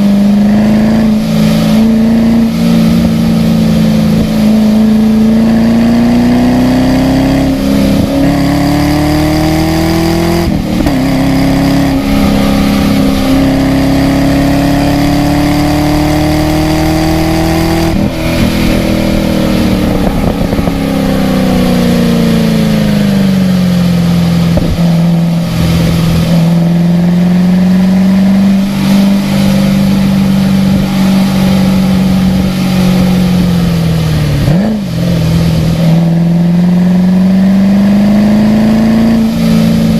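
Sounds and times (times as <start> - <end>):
car engine revving under load: 0.0 - 39.9.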